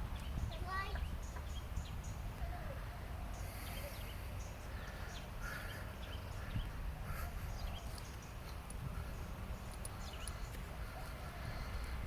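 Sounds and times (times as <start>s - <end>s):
faint bird calls: 0.2s - 12.0s.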